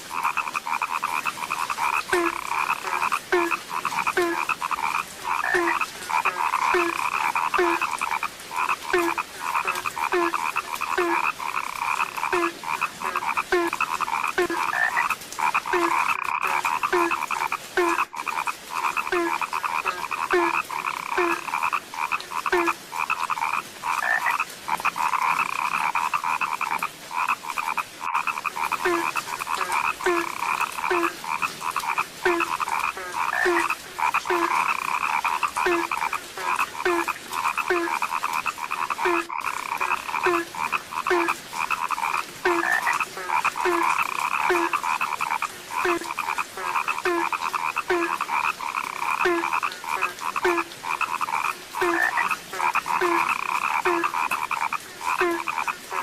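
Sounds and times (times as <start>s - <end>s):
frog chorus croaking: 0.0s - 56.0s.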